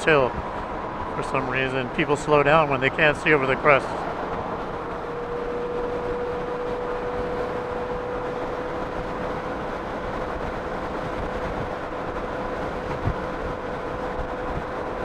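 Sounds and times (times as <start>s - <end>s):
motorcycle riding slowly: 0.0s - 15.0s
road noise: 0.0s - 15.0s
wind rushing over microphone: 0.0s - 15.0s.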